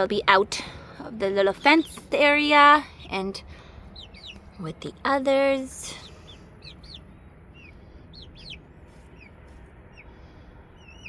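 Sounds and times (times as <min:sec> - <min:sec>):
young chickens peeping: 0:00.2 - 0:11.0.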